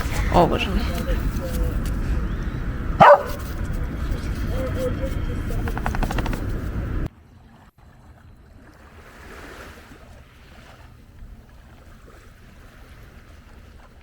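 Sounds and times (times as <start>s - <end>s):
faint outdoor background noise: 0.0s - 11.5s.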